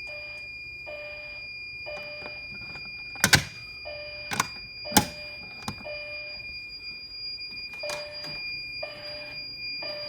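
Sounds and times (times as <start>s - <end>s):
continuous high-pitched tone: 0.0s - 10.0s
fire alarm alert beeps: 0.0s - 10.0s.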